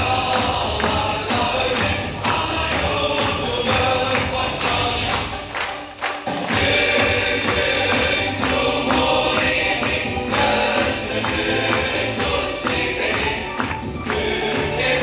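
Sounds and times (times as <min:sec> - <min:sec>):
group singing upbeat song: 0:00.0 - 0:15.0
hands clapping: 0:00.0 - 0:15.0.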